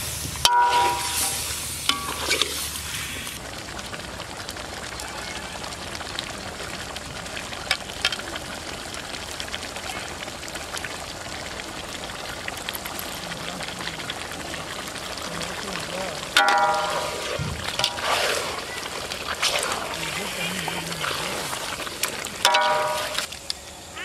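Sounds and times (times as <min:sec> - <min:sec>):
curry sizzling and bubbling: 0:00.0 - 0:24.0
sharp crackles: 0:00.0 - 0:24.0.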